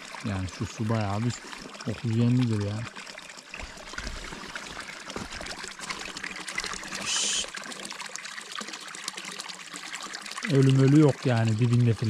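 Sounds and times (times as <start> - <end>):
water trickling into pool: 0.0 - 12.0.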